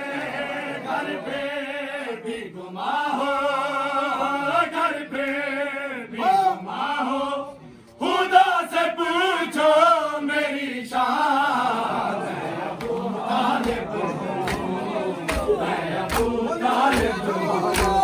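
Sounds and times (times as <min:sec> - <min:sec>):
men chanting a mourning lament: 0:00.0 - 0:18.0.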